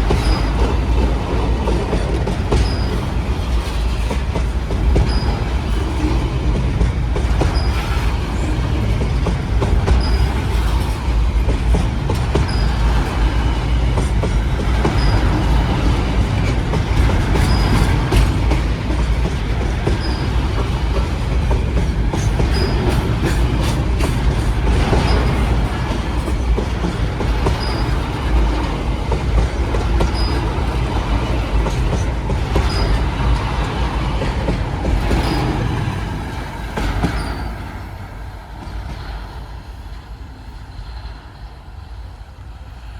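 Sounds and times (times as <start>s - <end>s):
freight train rumble: 0.0s - 42.9s.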